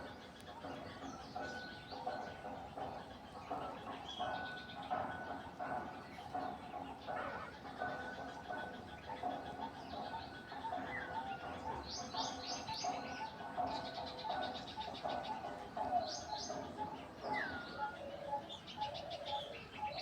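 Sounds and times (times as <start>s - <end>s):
bird chatter: 0.0s - 20.0s
birds chirping: 0.0s - 20.0s.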